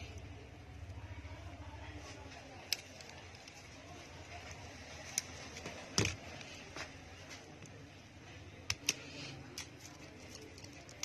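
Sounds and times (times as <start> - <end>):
faint steady background: 0.0 - 11.0.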